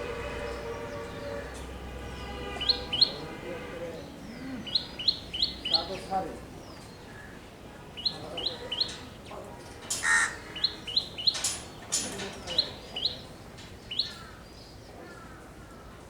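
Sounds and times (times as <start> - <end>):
sparrows chirping: 0.1 - 15.9.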